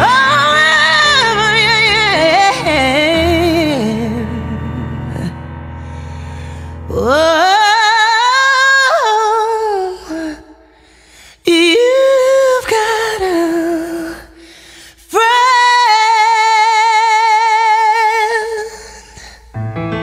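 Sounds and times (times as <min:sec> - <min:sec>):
woman singing with vibrato: 0:00.0 - 0:05.4, 0:06.9 - 0:10.6, 0:11.4 - 0:14.4, 0:15.1 - 0:19.1.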